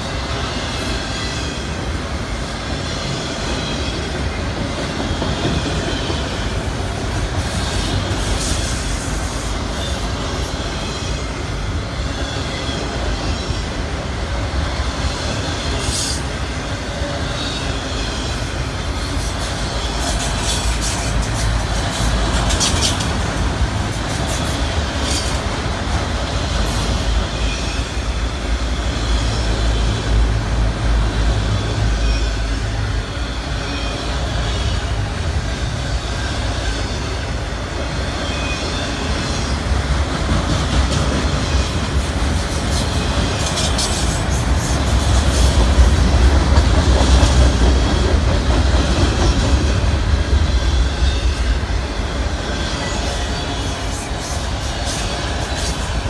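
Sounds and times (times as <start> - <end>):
freight cars rolling on rails: 0.0 - 56.0.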